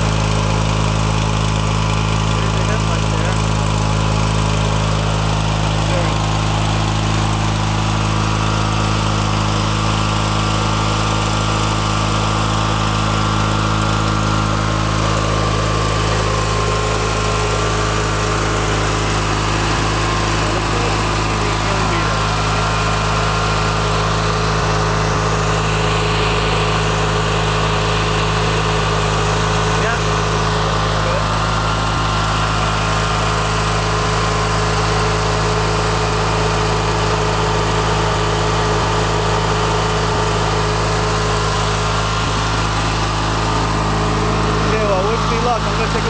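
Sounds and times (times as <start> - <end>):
riding mower engine running: 0.0 - 46.0.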